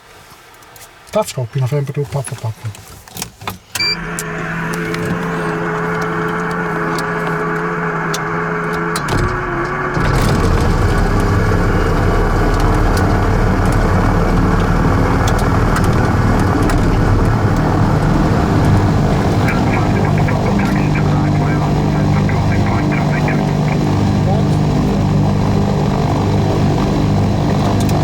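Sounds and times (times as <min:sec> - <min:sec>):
aircraft piston engines running: 0:03.6 - 0:28.0.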